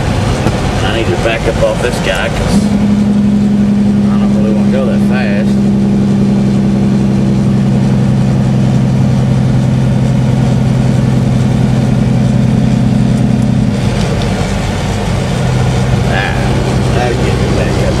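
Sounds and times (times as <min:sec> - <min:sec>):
road noise: 0:00.0 - 0:18.0
truck engine droning: 0:00.0 - 0:18.0.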